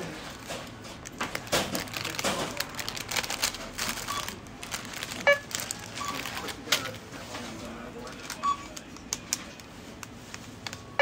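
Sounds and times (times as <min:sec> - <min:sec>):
shopping bags crinkling and rustling: 0:00.0 - 0:08.8.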